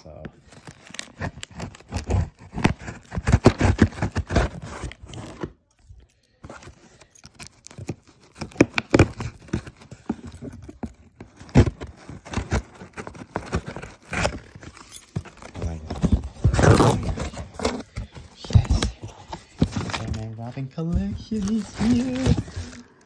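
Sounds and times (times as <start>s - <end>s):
cardboard box being torn open: 0.6s - 5.6s, 7.6s - 20.4s, 21.0s - 22.9s.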